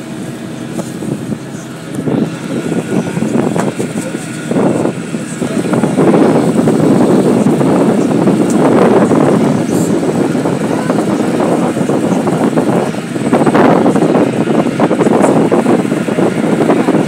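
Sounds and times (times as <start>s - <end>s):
ferry running noise: 0.0s - 17.0s
wind buffeting microphone: 0.0s - 17.0s.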